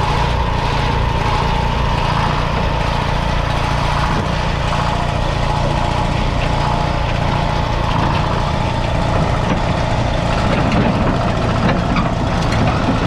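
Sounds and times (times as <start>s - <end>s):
diesel engine running at low revs: 0.0s - 13.0s
metallic clanks of steel tracks: 1.0s - 13.0s.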